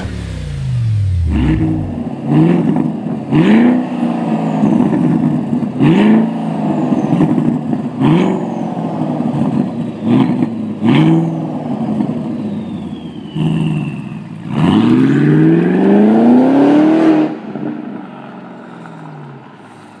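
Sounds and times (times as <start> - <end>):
car engine revving: 0.0 - 12.2, 13.3 - 17.5.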